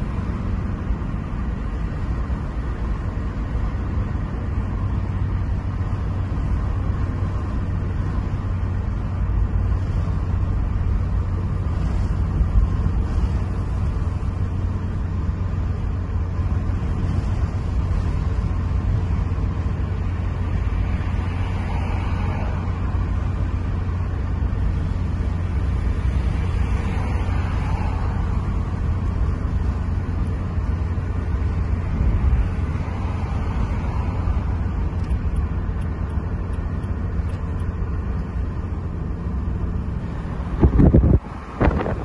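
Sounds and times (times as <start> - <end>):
car engine and tyre rumble: 0.0 - 42.0.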